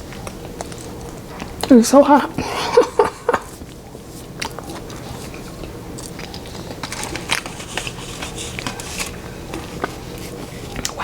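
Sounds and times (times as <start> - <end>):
person chewing food: 0.0 - 1.8, 2.4 - 11.0
wet mouth clicks and crunches: 0.1 - 1.7, 3.4 - 11.0.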